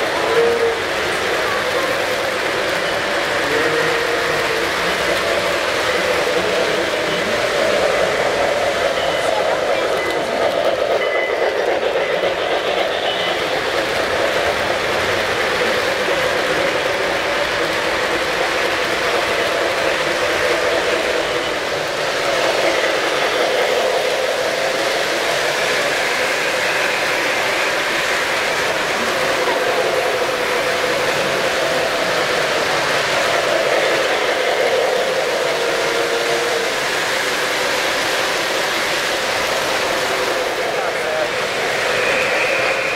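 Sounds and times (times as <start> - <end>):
model train rolling on track: 0.0 - 42.9.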